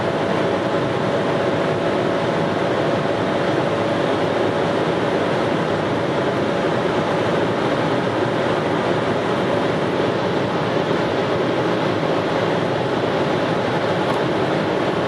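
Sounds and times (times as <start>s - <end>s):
car engine at high speed: 0.0s - 15.0s
wind and road noise: 0.0s - 15.0s.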